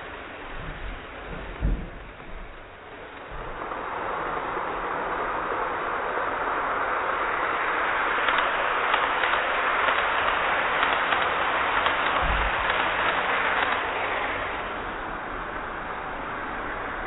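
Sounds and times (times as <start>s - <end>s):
model train wheels whirring: 0.0s - 17.0s.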